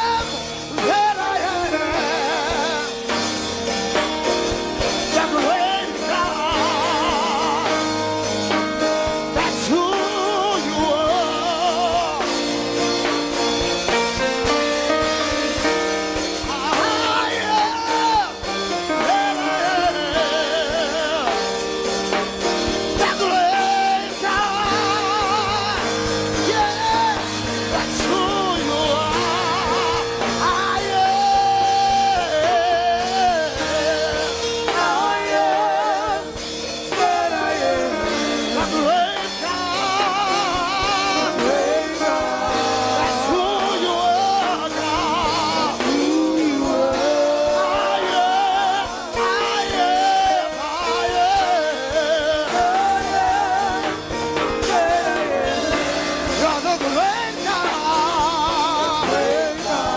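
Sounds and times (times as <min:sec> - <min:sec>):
choir singing: 0:00.0 - 0:59.9
instrumental accompaniment held chords: 0:00.0 - 0:59.9.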